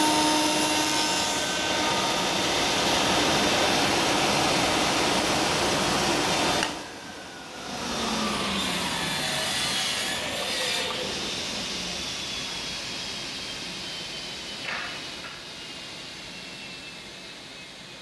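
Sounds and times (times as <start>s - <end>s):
machine hum with falling whine: 0.0s - 18.0s.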